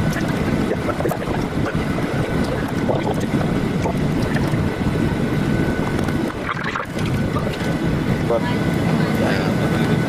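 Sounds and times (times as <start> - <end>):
airliner cabin engine noise: 0.0 - 10.0.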